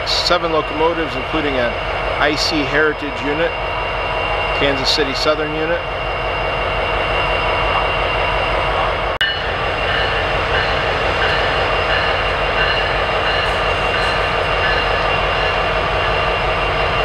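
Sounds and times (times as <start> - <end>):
freight train rumbling: 0.0 - 17.0
steady high tones: 0.1 - 17.0.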